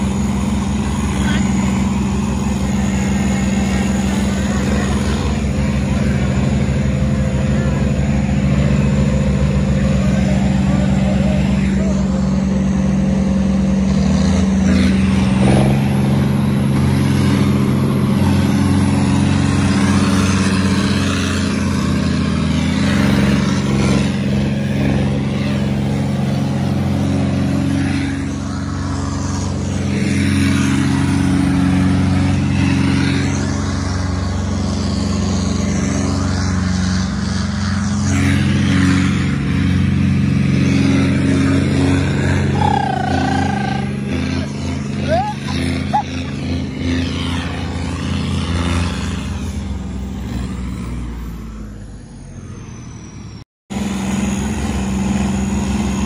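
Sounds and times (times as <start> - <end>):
road noise: 0.0 - 56.0
tractor diesel engine running: 0.0 - 56.0.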